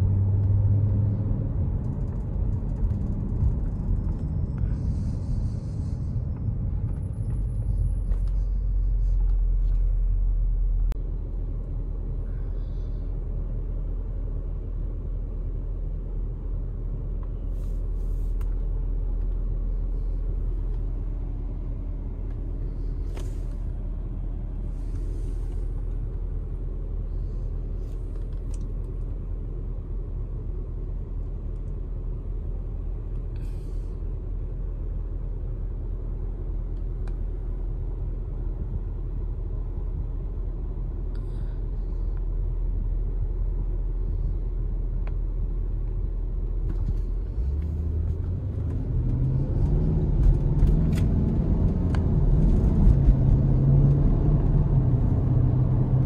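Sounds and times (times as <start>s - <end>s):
car engine idling: 0.0s - 49.5s.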